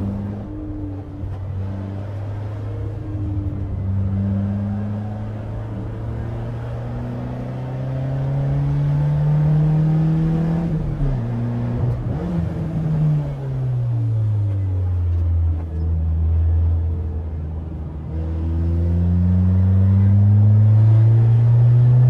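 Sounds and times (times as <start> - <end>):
car engine pulling: 0.0 - 22.0.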